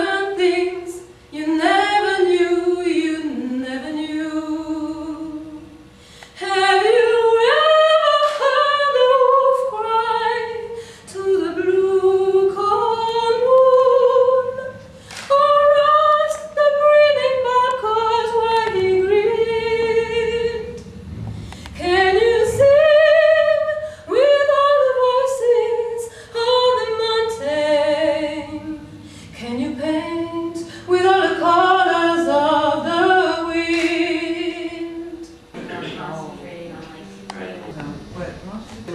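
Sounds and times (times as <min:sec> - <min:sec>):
woman singing unaccompanied: 0:00.0 - 0:05.8, 0:06.4 - 0:20.8, 0:21.8 - 0:35.4.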